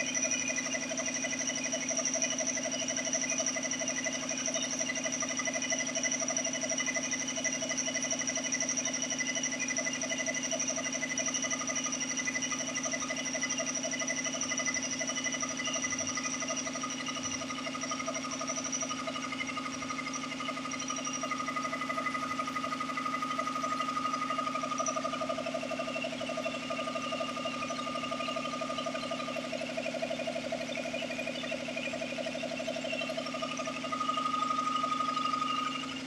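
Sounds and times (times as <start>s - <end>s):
air compressor pulsing: 0.0s - 36.0s.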